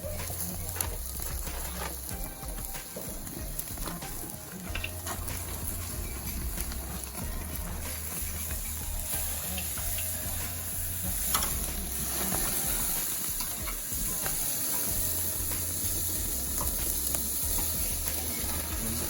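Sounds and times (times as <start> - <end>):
crackles and pops: 0.0 - 19.0
meat sizzling on grill: 0.0 - 19.0.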